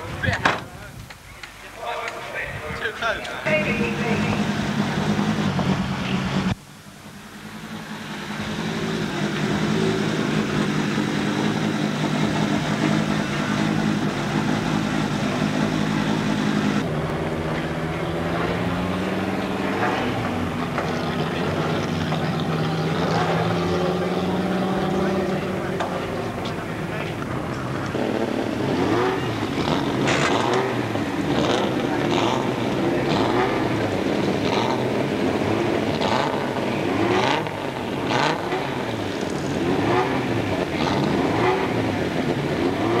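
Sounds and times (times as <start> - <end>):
rally car engines idling: 0.0 - 43.0.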